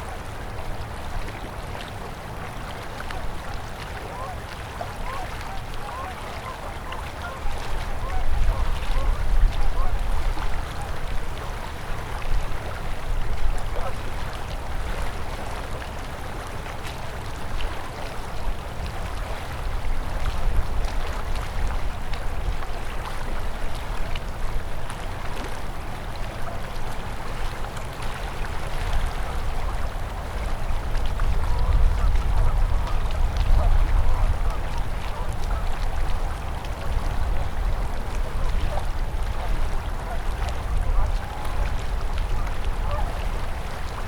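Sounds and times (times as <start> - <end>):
river water rushing: 0.0 - 44.0
small water splashes: 0.0 - 44.0.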